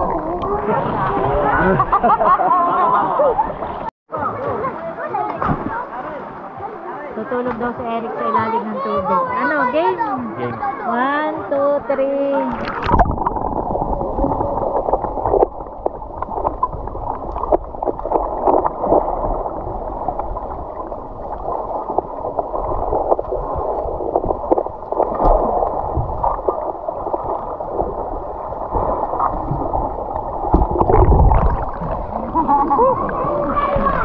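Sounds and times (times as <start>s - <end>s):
low water rush: 0.0s - 34.0s
underwater creek gurgling: 0.0s - 34.0s.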